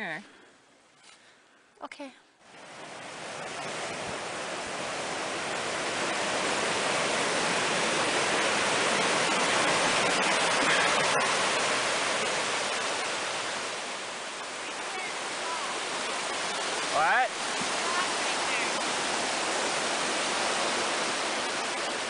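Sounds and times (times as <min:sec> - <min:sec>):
creek rushing over rocks: 0:02.5 - 0:22.0.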